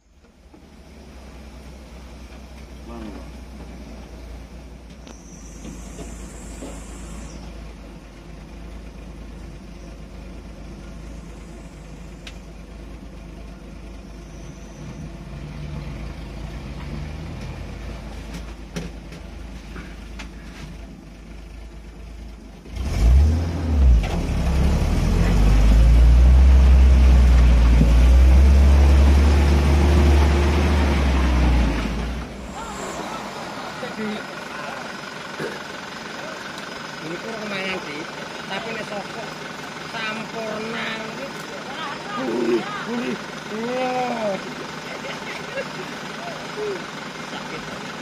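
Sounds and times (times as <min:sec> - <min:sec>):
off-road vehicle engine revving: 0:00.6 - 0:18.6, 0:22.4 - 0:48.0.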